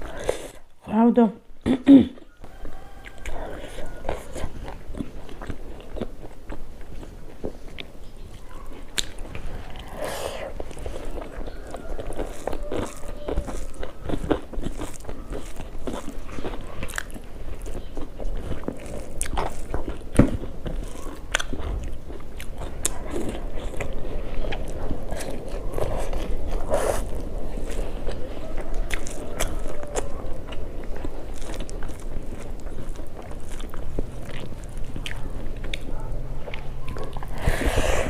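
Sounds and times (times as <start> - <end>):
person chewing crunchy food: 0.0 - 0.8, 2.2 - 38.0.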